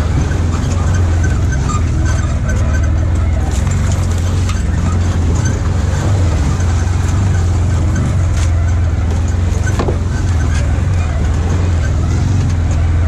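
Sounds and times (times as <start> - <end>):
knocks and rattles: 0.0 - 13.0
utv engine running: 0.0 - 13.0.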